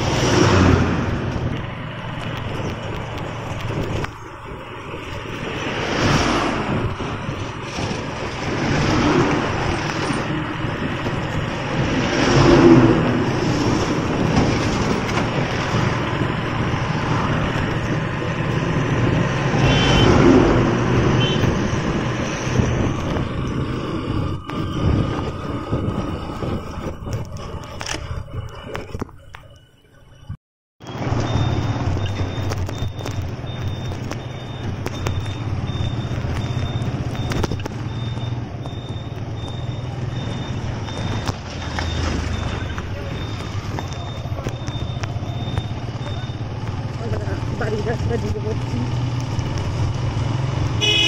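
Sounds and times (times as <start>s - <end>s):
wind noise: 0.0s - 46.8s
passing traffic: 0.0s - 51.0s.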